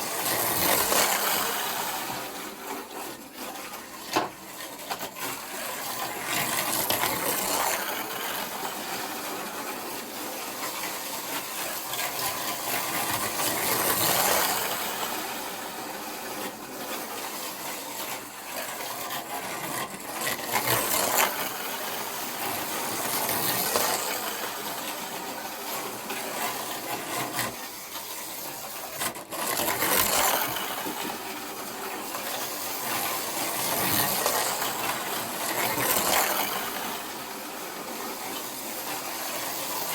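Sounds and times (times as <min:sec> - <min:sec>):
slot cars whirring on track: 0:00.0 - 0:04.3, 0:05.8 - 0:18.8, 0:19.7 - 0:39.9.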